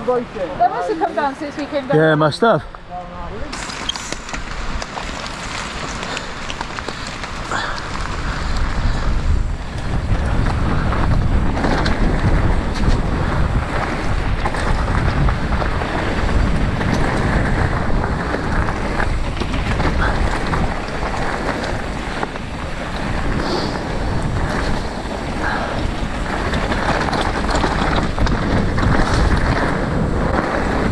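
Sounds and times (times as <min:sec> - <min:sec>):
bike rolling on dirt trail: 0:03.1 - 0:30.9
wind rushing over microphone: 0:03.2 - 0:30.9.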